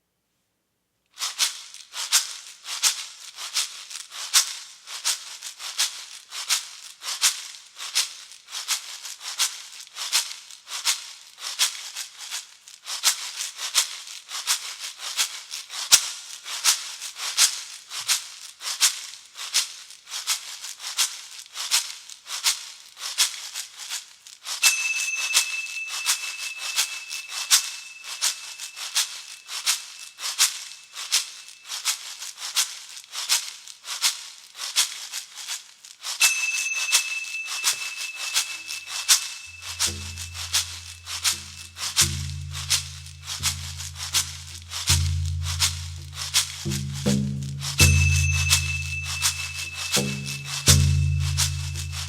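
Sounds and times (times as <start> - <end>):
hand rattle shaking: 1.2 - 52.0.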